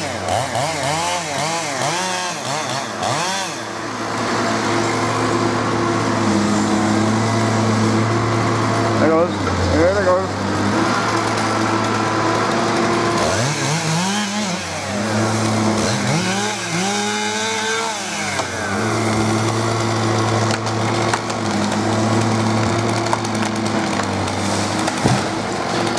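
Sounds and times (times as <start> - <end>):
chainsaw engine idling: 0.0 - 25.9.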